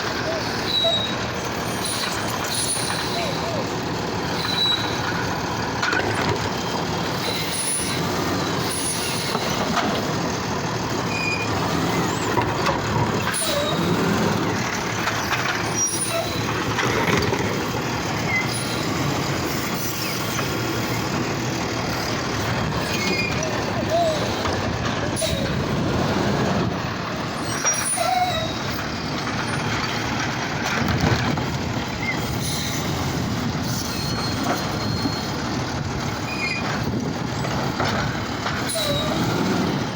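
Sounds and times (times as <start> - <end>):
garbage truck running: 0.0 - 39.9.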